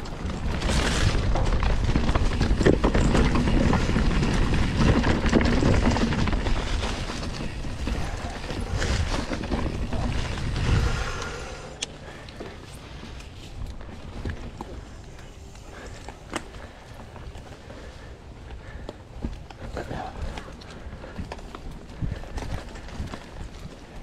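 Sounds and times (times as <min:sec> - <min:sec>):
wind rumble on microphone: 0:00.0 - 0:17.9, 0:18.6 - 0:24.0
bike rattling over bumpy ground: 0:00.0 - 0:24.0.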